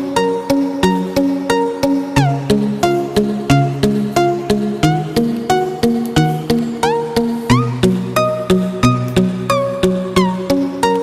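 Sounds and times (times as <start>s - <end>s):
plucked background music: 0.0s - 11.0s.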